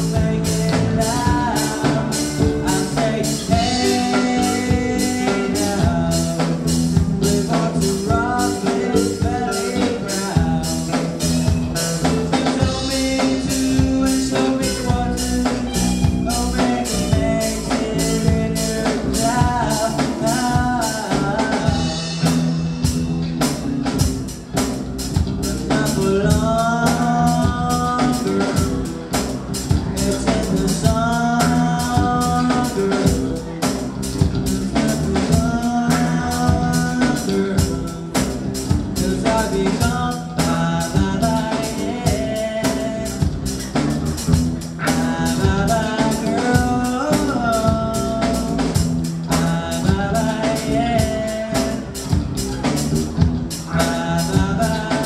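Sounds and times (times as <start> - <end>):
person singing: 0.0 - 23.2, 25.1 - 55.0
bass line: 0.0 - 55.0
drum kit beat: 0.0 - 55.0.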